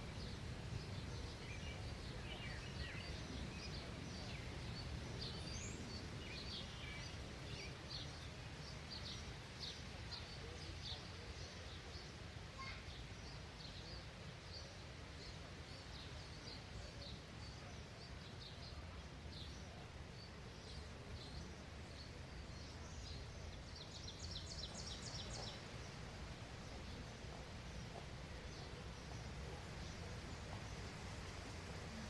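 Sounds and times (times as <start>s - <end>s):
low outdoor background noise: 0.0s - 32.0s
songbirds chirping: 0.0s - 32.0s.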